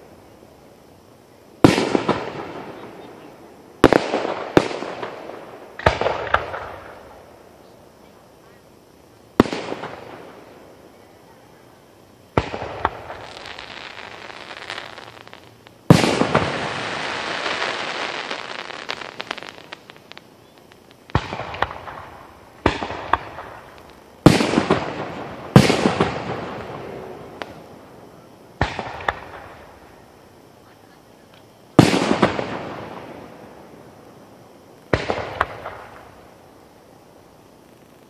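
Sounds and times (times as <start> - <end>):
fireworks booming with echo: 1.5 - 38.0
small fireworks pops: 1.6 - 11.0, 12.2 - 33.3, 34.0 - 36.4.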